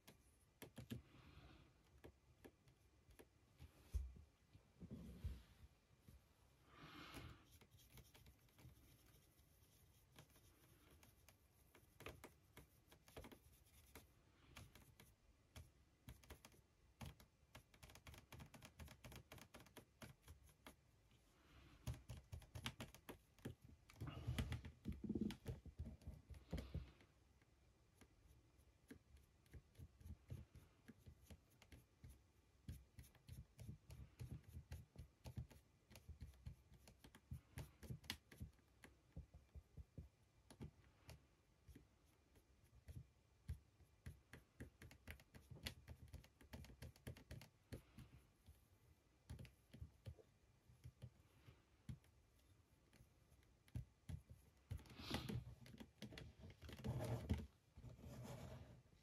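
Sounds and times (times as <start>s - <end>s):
paintbrush clicks and scratching: 7.2s - 59.0s.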